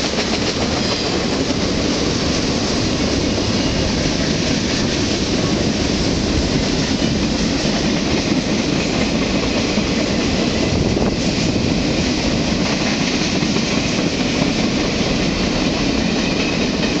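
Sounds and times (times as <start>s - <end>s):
trains passing: 0.0s - 17.0s.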